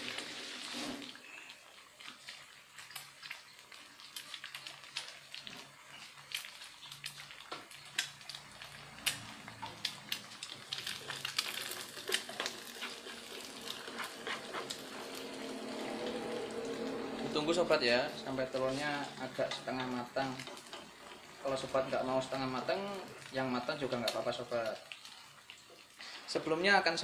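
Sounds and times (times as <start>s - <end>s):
oil crackling and popping: 0.0s - 17.1s, 18.3s - 27.0s
egg frying in oil: 0.0s - 27.0s.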